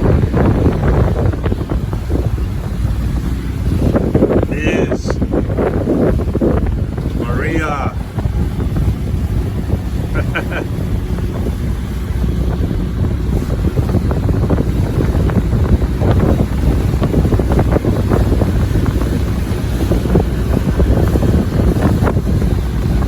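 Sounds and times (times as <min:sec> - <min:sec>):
boat engine rumble: 0:00.0 - 0:23.0
wind buffeting microphone: 0:00.0 - 0:23.0.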